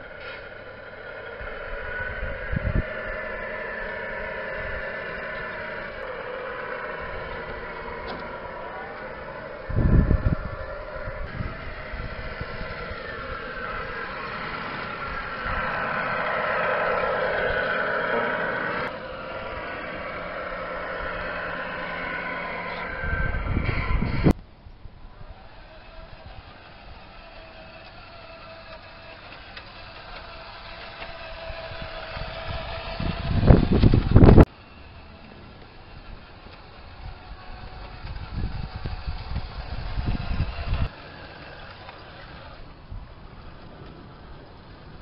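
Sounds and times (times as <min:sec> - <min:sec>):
loud rumbling: 0:00.0 - 0:45.0
model truck motor drone: 0:00.0 - 0:45.0.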